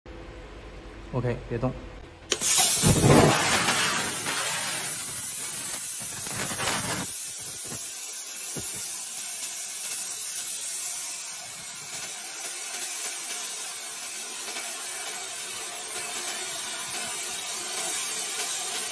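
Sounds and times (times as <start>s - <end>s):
plasma cutting torch hissing: 2.3s - 18.9s.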